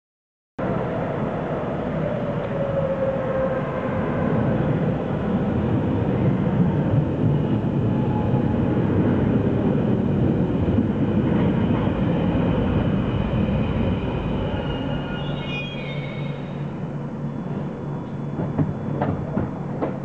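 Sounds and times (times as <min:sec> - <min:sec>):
train wheels rumbling: 0:00.7 - 0:20.0.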